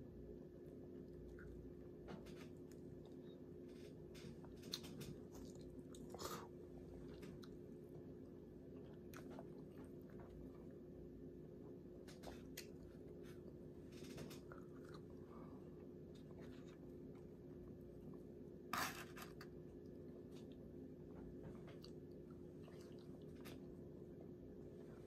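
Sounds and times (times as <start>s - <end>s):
steady low hum: 0.0s - 25.0s
faint chewing: 1.1s - 10.8s, 12.0s - 20.6s, 21.2s - 25.0s.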